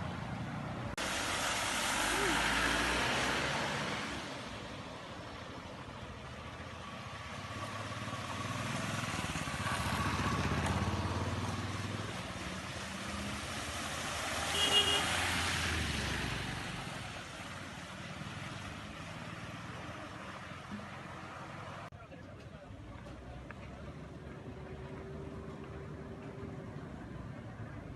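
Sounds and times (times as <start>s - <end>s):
traffic going by: 0.0s - 27.9s.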